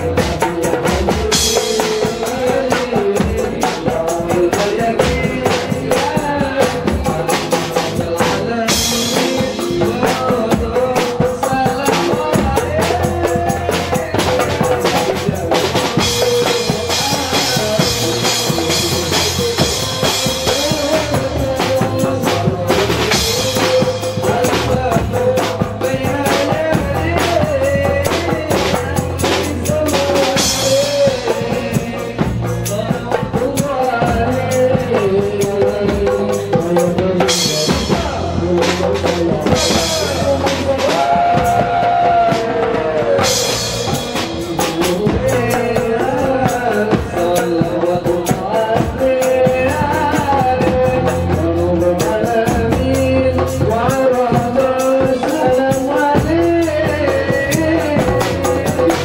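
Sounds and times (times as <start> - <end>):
man singing into microphone: 0.0 - 59.0.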